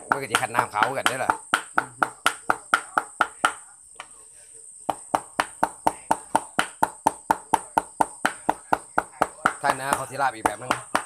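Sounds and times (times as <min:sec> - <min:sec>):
knife chopping meat on block: 0:00.0 - 0:03.6, 0:04.9 - 0:11.0.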